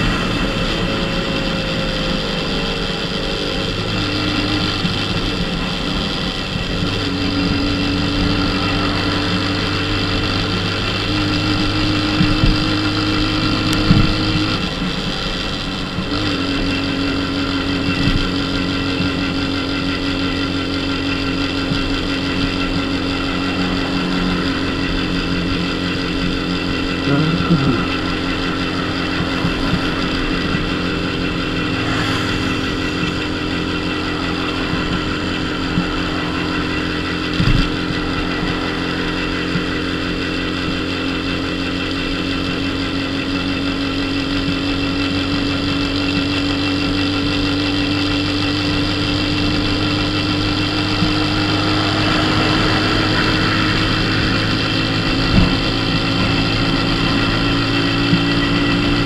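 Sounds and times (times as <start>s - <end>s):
moped engine running: 0.0s - 59.0s.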